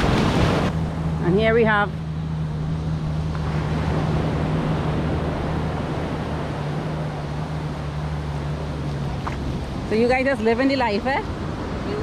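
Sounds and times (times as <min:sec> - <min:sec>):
surf washing on sand: 0:00.0 - 0:12.0.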